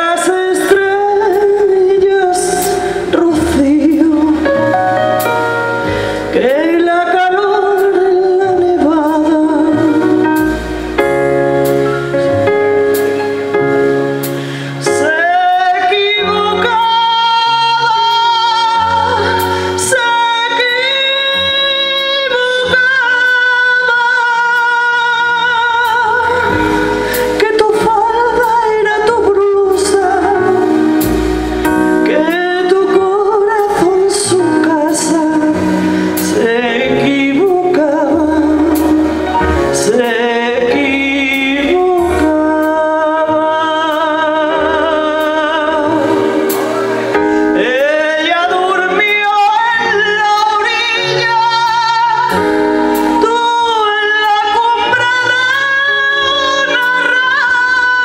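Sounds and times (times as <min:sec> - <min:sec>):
woman singing: 0:00.0 - 0:10.8, 0:14.8 - 0:46.9, 0:47.5 - 0:58.0
electronic keyboard accompaniment: 0:00.0 - 0:58.0.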